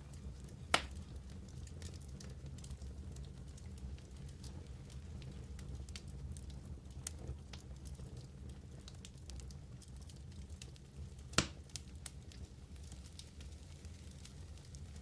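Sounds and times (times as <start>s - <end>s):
fire crackles and pops: 0.0s - 15.0s
low rumble of fire: 0.0s - 15.0s.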